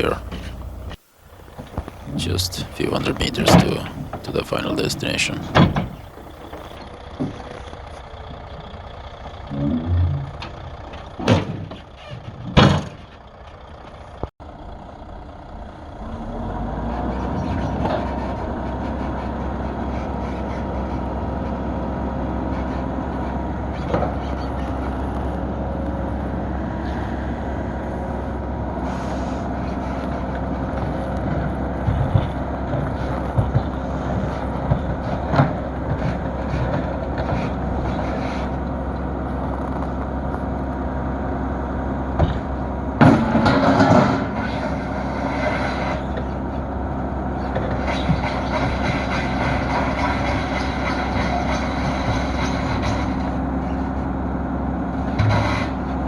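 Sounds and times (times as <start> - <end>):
diesel engine deep rumble: 0.0 - 56.0.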